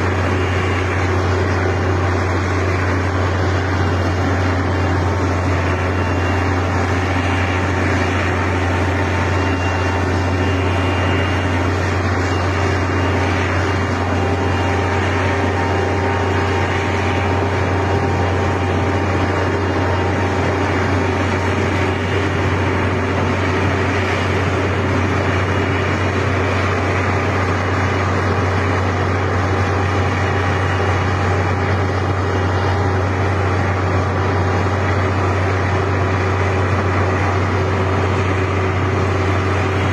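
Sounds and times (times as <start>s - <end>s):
snow blower engine drone: 0.0s - 39.9s.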